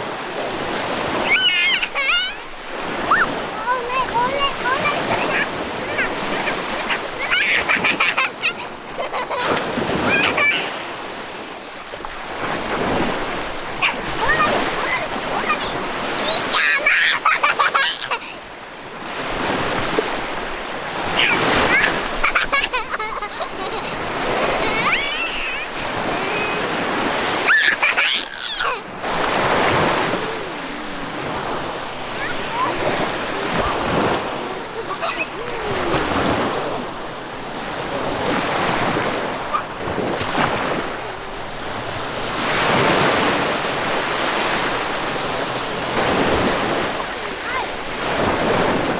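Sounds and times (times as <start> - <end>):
sea surf washing on shore: 0.0 - 48.9.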